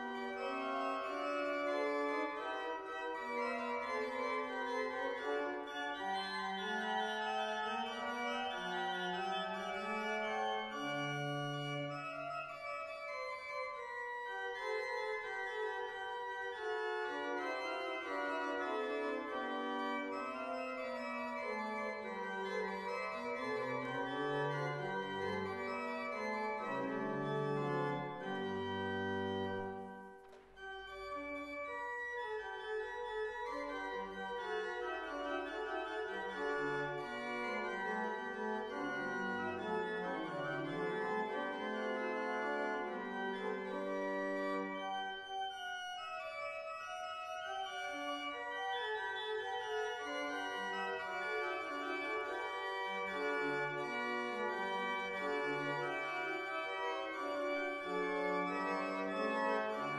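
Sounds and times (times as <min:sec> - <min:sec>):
pipe organ chorale music: 0:00.0 - 0:59.9.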